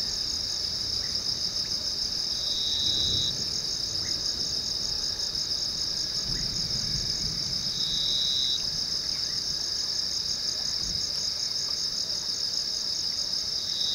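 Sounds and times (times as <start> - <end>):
chorus of insects: 0.0 - 13.9
lower insect trill: 0.0 - 13.9.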